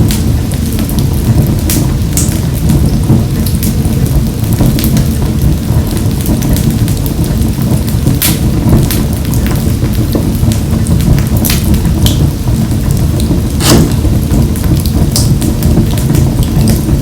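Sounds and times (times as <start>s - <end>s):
fire burning in a stove: 0.0s - 17.0s
fire crackling and popping: 0.0s - 17.0s.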